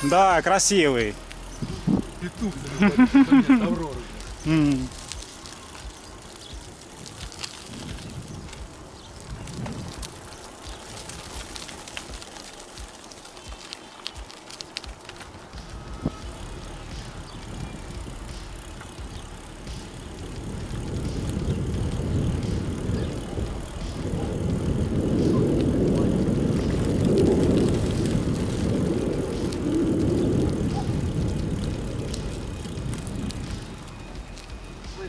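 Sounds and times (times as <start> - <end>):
tyre noise on rough asphalt: 0.0 - 35.0
wind rumbling on microphone: 0.0 - 35.0.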